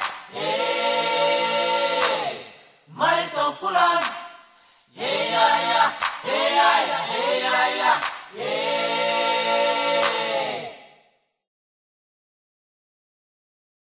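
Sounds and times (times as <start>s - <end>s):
a cappella group singing: 0.0s - 11.3s.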